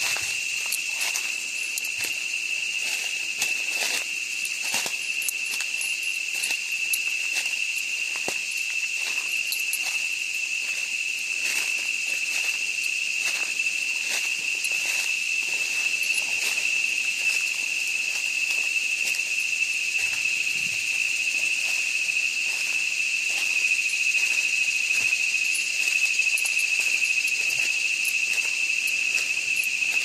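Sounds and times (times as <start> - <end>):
footsteps crunching on leaves: 0.0 - 30.0
high-pitched insect drone: 0.0 - 30.0.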